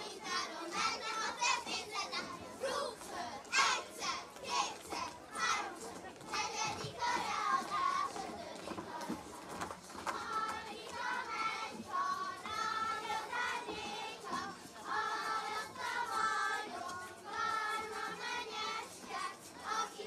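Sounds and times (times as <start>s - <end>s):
children singing folk song: 0.0s - 20.0s.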